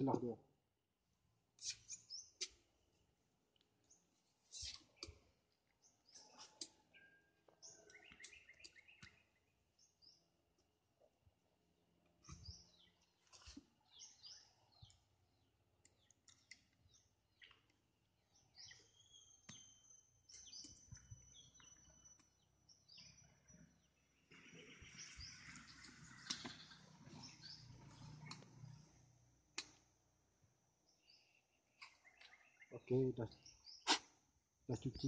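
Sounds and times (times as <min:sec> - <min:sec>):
faint birds chirping: 0:01.2 - 0:35.0.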